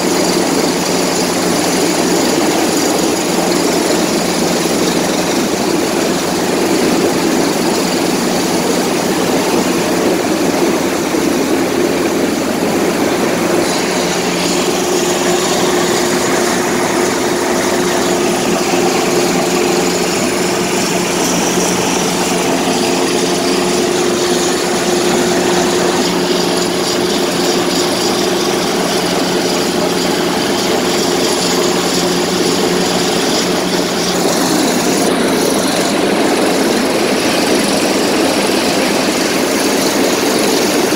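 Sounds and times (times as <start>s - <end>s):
helicopter hovering: 0.0s - 40.9s.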